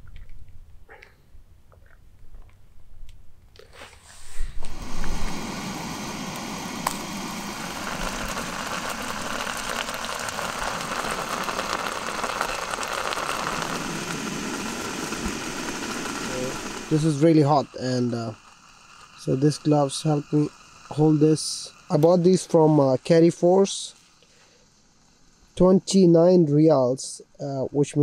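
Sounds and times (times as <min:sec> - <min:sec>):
gas stove burner hissing: 0:03.8 - 0:28.0.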